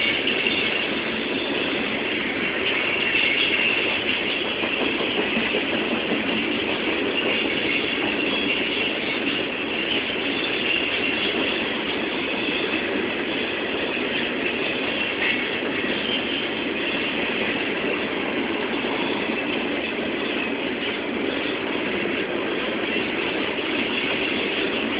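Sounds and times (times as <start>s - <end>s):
train wheels on rails: 0.0s - 24.9s.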